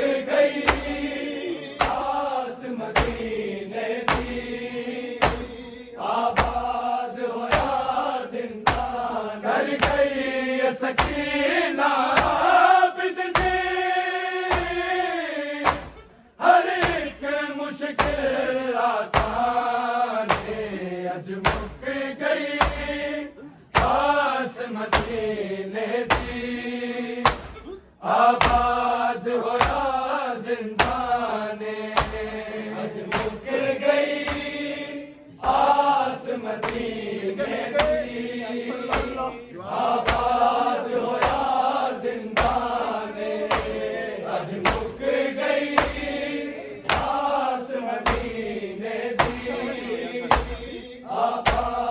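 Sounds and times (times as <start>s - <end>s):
men chanting in unison: 0.0s - 51.9s.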